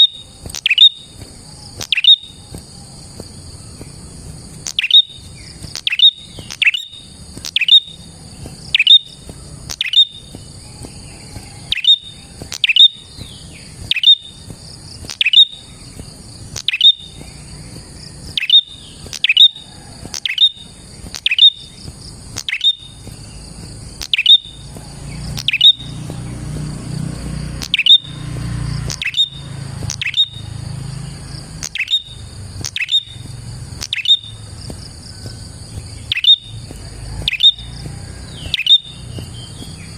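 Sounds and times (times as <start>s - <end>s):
bird calling falling chirps: 0.0s - 28.2s, 28.8s - 39.9s
high insect drone: 0.0s - 39.9s.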